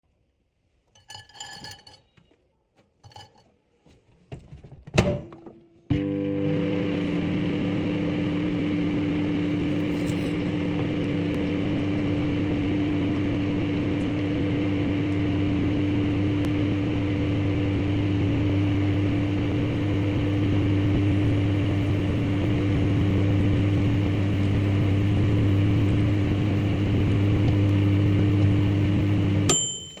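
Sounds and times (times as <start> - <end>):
microwave oven humming: 5.9 - 30.0.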